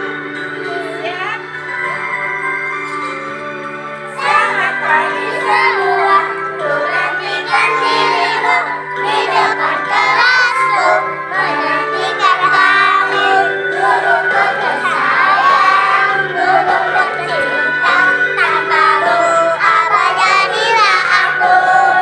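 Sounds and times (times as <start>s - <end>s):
children's choir singing: 0.0s - 2.2s, 2.9s - 22.0s
instrumental accompaniment: 0.0s - 22.0s.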